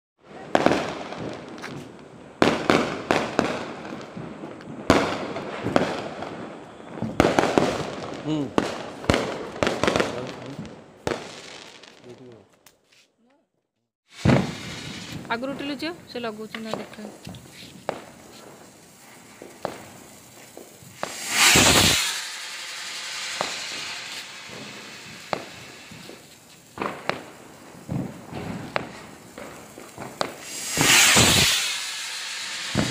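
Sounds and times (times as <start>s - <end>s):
fireworks bangs: 0.2s - 12.4s, 14.1s - 32.9s
small firework pops: 0.4s - 13.4s, 14.1s - 32.9s.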